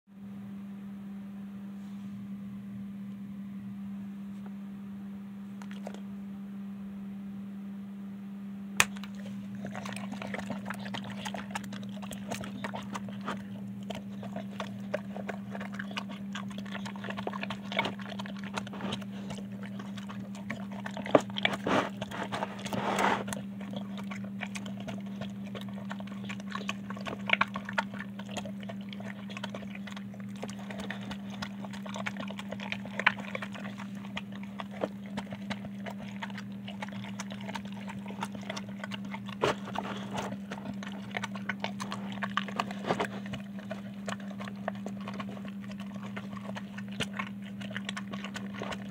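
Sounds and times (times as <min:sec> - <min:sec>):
steady low hum: 0:00.1 - 0:48.9
dog chewing wet food: 0:05.6 - 0:06.0, 0:08.8 - 0:48.9.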